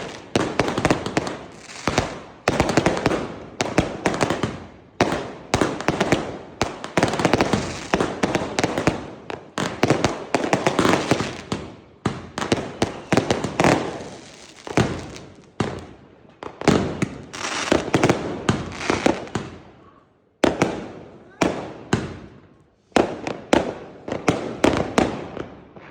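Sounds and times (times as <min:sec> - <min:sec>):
fireworks bangs and crackling: 0:00.0 - 0:25.9.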